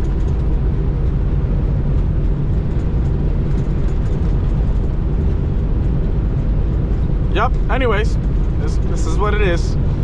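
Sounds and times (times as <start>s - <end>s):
road noise: 0.0s - 10.0s
truck diesel engine drone: 0.0s - 10.0s.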